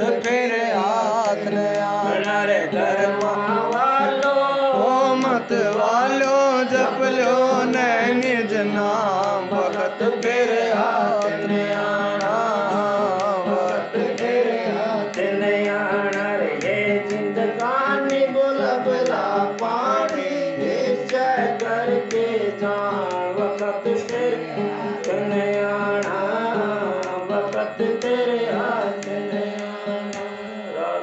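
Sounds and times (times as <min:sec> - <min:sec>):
held accompanying tones: 0:00.0 - 0:31.0
man singing into microphone: 0:00.0 - 0:31.0
percussion strokes: 0:00.0 - 0:31.0.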